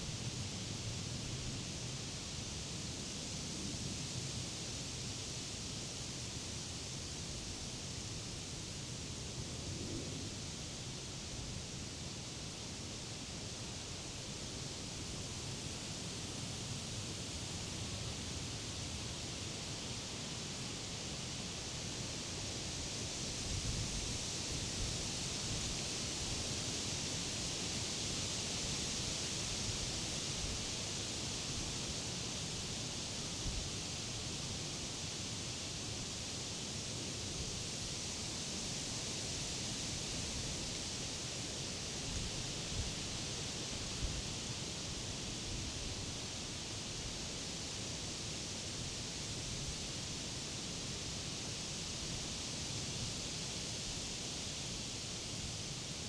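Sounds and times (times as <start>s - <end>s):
wind rustling leaves: 0.0s - 56.0s.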